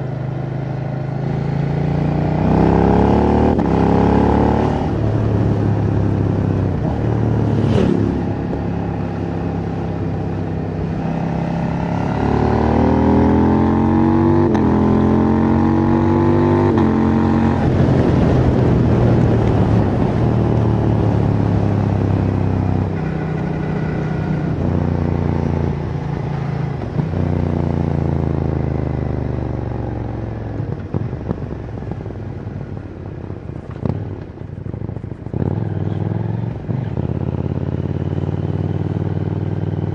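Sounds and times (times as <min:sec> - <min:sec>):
motorcycle engine revving through gears: 0:00.0 - 0:32.9, 0:33.5 - 0:39.9.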